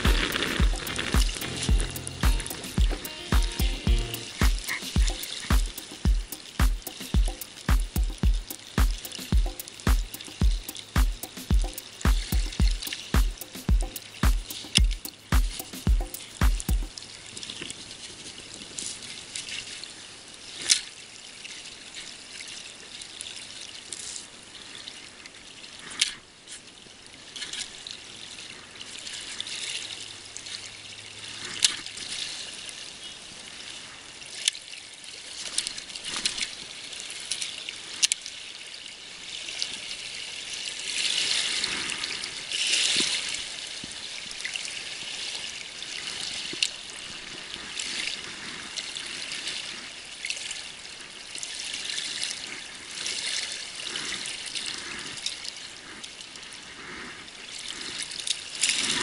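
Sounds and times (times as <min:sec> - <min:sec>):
waves lapping on stony shore: 0:00.0 - 0:02.4, 0:03.1 - 0:59.0.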